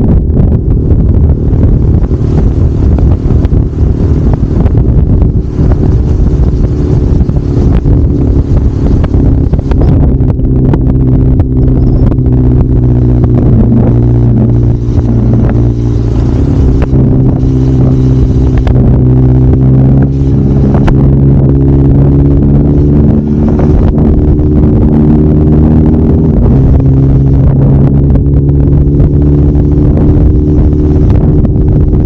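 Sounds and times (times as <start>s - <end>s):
motorcycle engine cruising: 0.0s - 32.0s.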